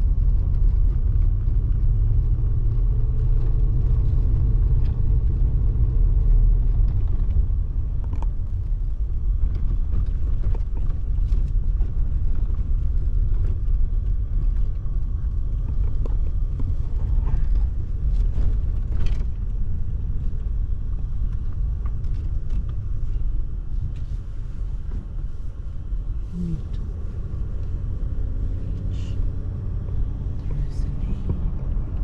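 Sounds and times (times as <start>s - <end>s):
truck engine rumble: 0.0s - 32.0s.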